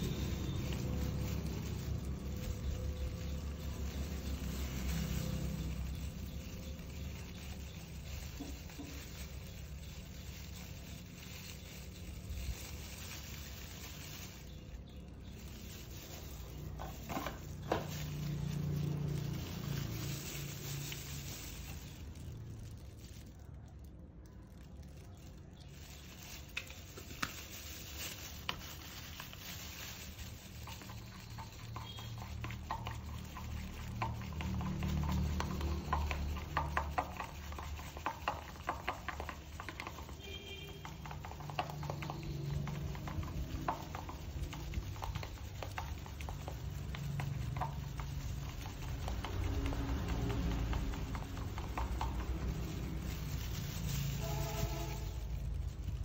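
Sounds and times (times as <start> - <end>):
toothbrush scraping plastic bowl: 0.0 - 22.4, 26.4 - 56.0.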